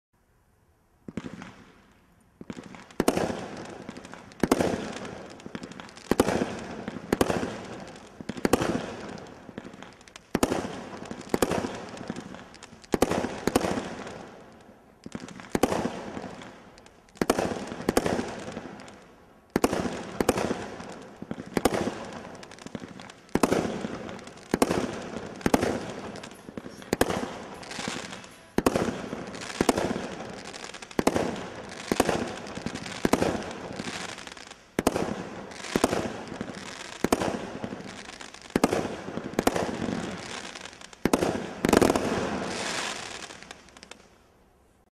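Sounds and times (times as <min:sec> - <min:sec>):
firework bangs: 0:02.4 - 0:44.0.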